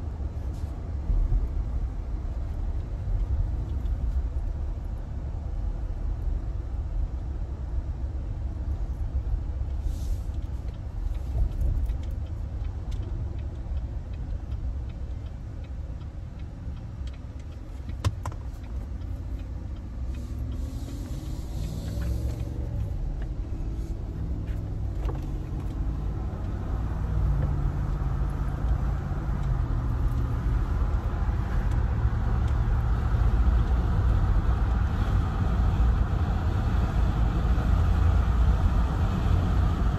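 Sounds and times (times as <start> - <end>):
road and wind rumble in car: 0.0 - 39.9.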